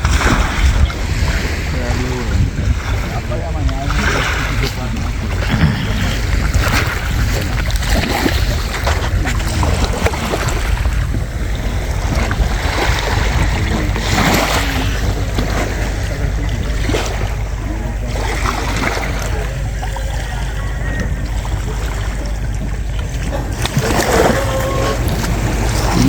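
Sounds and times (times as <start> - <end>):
sea waves washing on shore: 0.0 - 26.0
wind rumble on microphone: 0.0 - 26.0.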